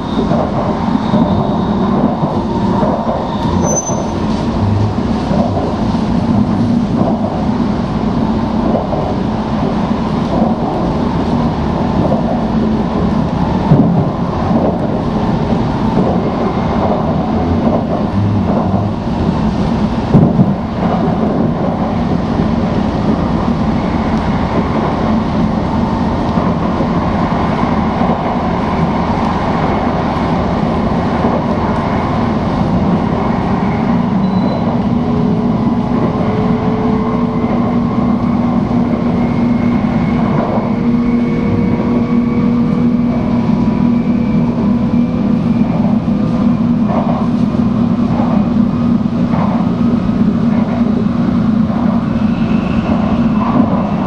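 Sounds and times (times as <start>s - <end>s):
train cabin rumble and rush: 0.0s - 54.0s.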